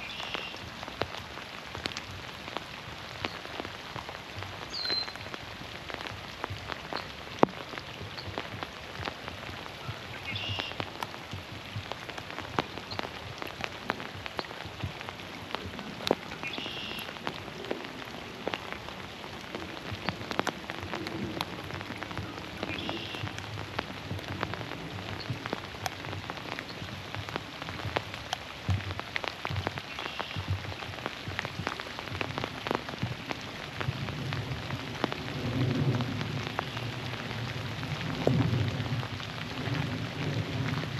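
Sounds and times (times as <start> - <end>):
rain on leaves and water: 0.0 - 40.9.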